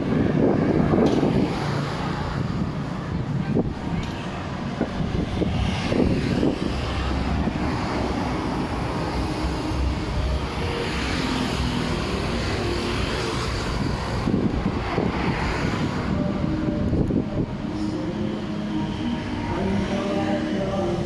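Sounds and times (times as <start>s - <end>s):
street noise: 0.0s - 21.0s.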